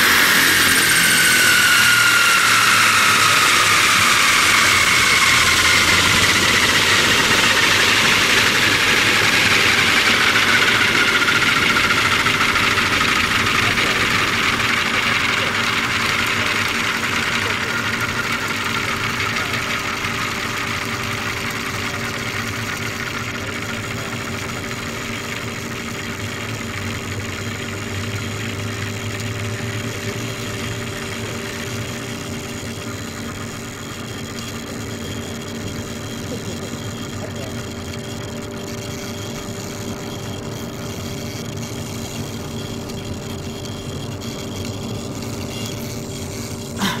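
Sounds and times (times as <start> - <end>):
rc helicopter engine running: 0.0 - 47.0.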